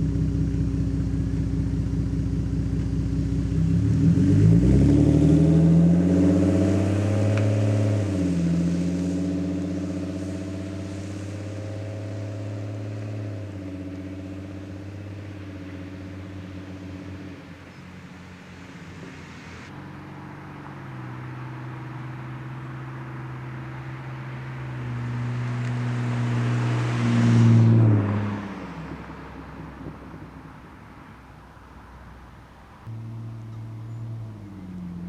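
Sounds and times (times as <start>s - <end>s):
car exhaust driving past: 0.0s - 35.0s.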